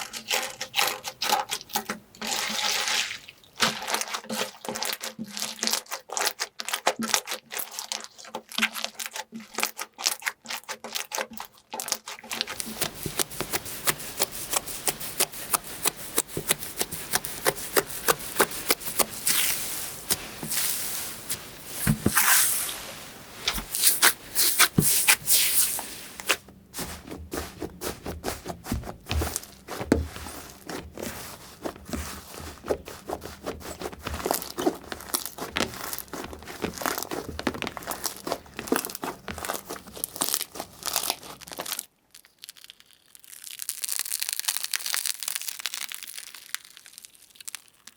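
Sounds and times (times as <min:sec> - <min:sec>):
slime crackling and popping: 0:03.6 - 0:22.7, 0:23.4 - 0:47.9.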